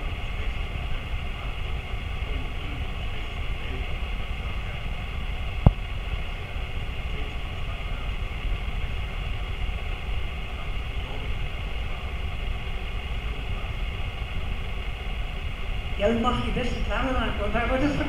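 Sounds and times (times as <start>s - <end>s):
low rumble of meeting hall: 0.0s - 18.0s.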